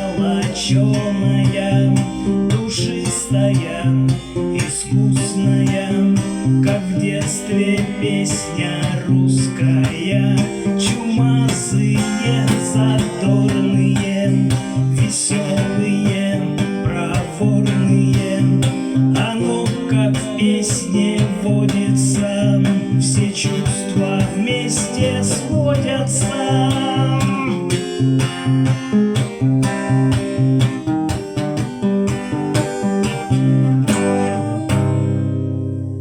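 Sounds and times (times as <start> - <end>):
bass line: 0.0 - 36.0
strummed guitar: 0.0 - 36.0.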